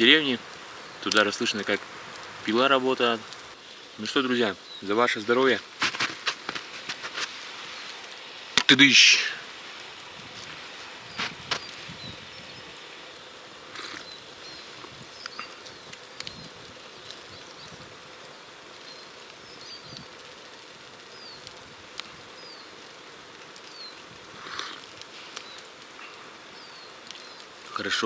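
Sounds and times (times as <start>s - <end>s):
songbirds chirping: 0.0s - 1.8s, 2.4s - 6.8s, 7.6s - 28.0s
steady background hiss: 0.0s - 28.0s.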